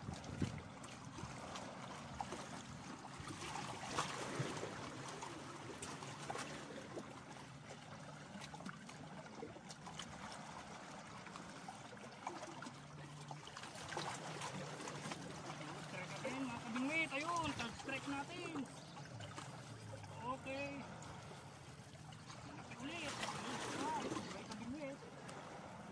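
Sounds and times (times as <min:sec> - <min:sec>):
small waves lapping on rocks: 0:00.0 - 0:25.9.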